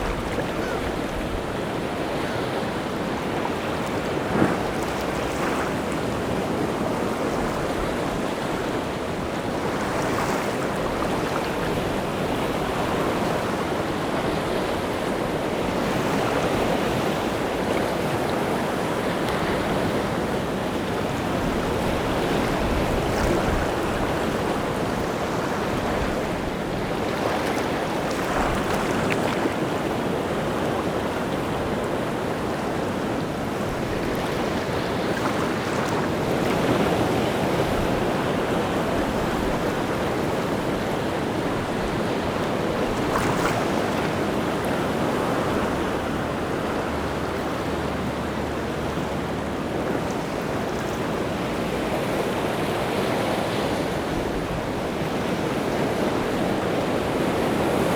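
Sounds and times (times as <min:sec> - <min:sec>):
waves breaking on shore: 0:00.0 - 0:57.9.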